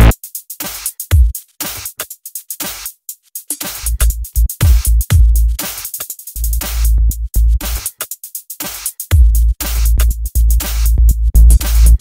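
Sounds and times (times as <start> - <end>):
electronic dance music: 0.0 - 2.9, 3.5 - 6.9, 7.6 - 12.0.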